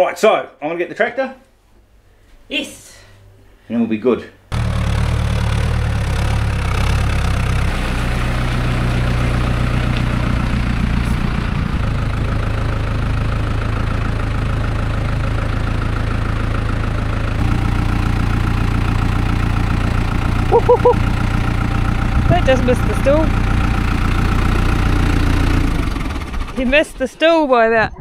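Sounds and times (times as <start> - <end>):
tractor diesel engine droning: 4.5 - 27.5.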